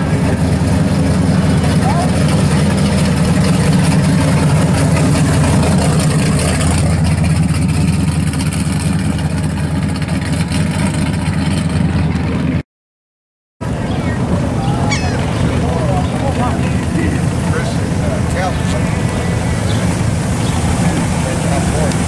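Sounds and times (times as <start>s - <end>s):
car engine driving slowly past: 0.0s - 12.6s, 13.6s - 22.0s.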